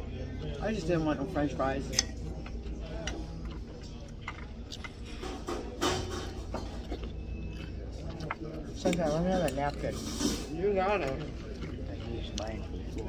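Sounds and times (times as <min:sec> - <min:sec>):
restaurant background hum: 0:00.0 - 0:13.0.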